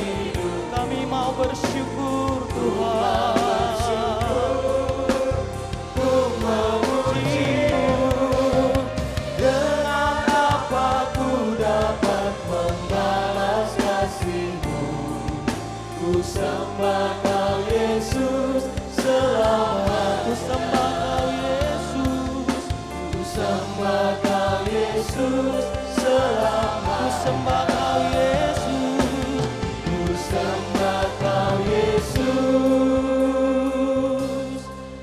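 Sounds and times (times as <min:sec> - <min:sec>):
band with drums playing: 0:00.0 - 0:34.8
many voices singing: 0:00.0 - 0:35.0.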